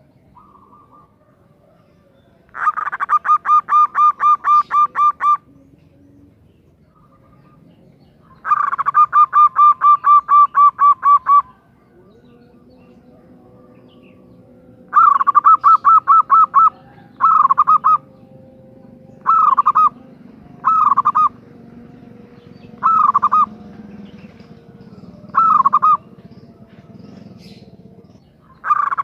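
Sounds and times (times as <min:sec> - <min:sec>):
dove cooing: 0:00.3 - 0:29.0.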